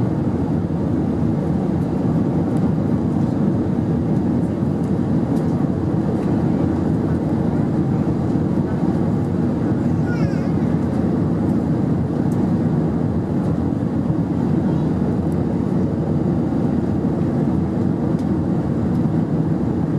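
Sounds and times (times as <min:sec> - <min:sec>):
jet engines low rumble: 0:00.0 - 0:19.9.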